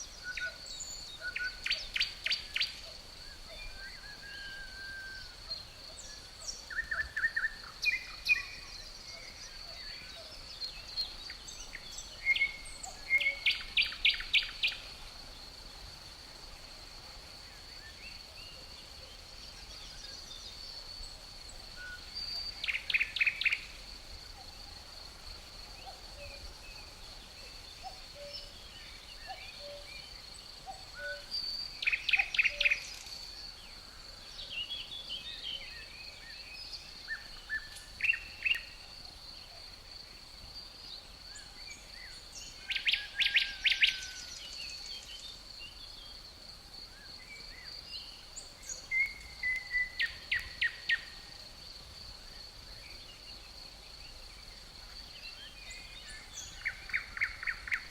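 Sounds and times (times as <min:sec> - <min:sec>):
crickets trilling: 0:00.0 - 0:57.9
songbird singing: 0:00.0 - 0:57.9.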